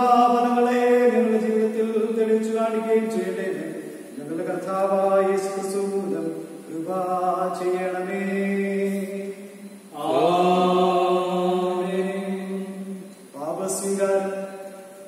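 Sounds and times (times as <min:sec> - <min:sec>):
man chanting a prayer: 0:00.0 - 0:09.4, 0:10.0 - 0:14.7.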